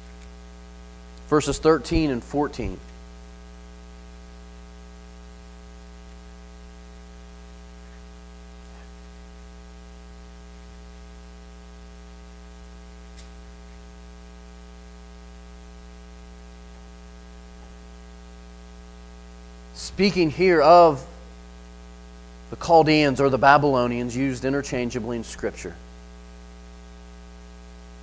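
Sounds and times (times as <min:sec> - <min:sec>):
constant hiss: 0:00.0 - 0:28.0
electrical mains hum: 0:00.0 - 0:28.0.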